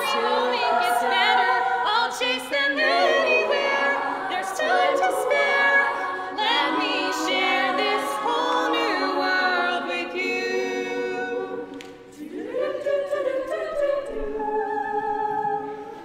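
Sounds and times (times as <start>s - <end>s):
women's a cappella singing: 0.0s - 16.0s.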